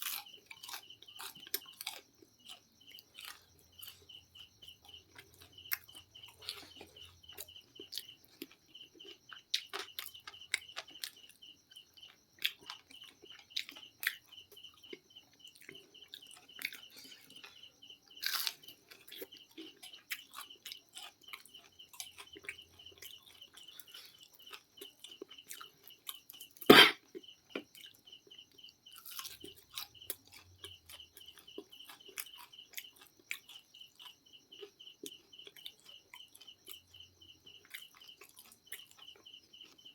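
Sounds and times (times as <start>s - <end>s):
chewing crispy food: 0.0s - 39.9s
insect chirping: 0.0s - 39.9s.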